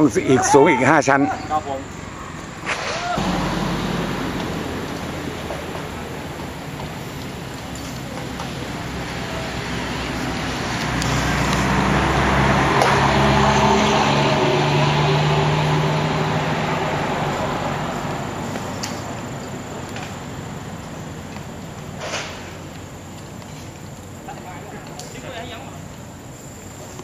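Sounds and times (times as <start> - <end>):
engine passing by: 0.0 - 23.1.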